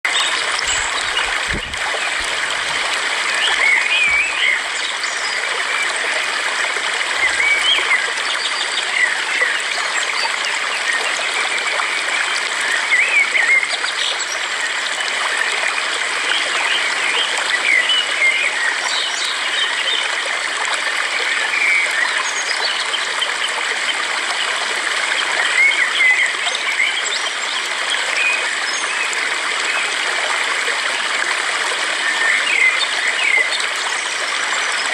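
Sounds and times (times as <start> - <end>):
stream water running: 0.1 - 34.9.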